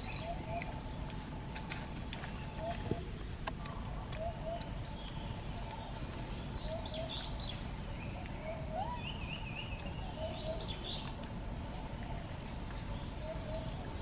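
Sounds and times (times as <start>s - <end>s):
birds chirping and trilling: 0.0s - 14.0s
low outdoor background noise: 0.0s - 14.0s.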